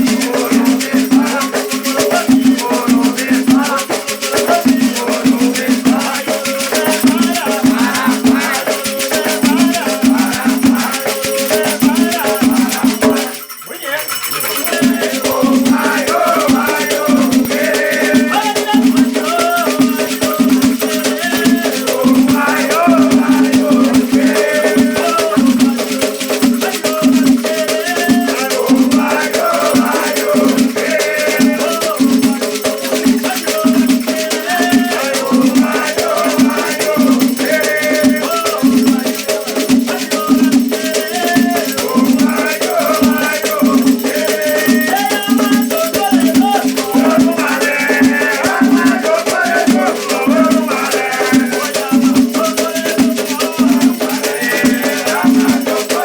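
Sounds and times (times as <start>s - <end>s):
people singing: 0.0s - 56.0s
shaken rattle beat: 0.0s - 56.0s.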